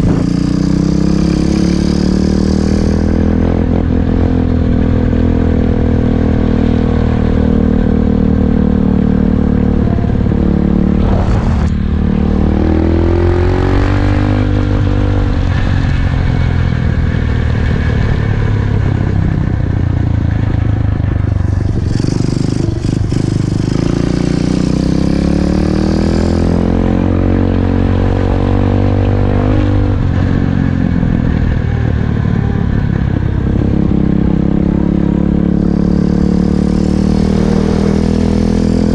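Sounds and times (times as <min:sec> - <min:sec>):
dirt bike engine revving: 0:00.0 - 0:16.1, 0:21.2 - 0:31.4, 0:33.6 - 0:38.9.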